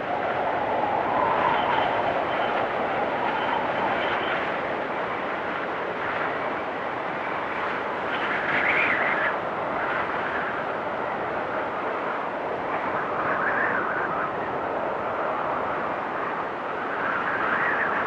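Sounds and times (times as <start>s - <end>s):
storm wind gusting: 0.0s - 18.0s.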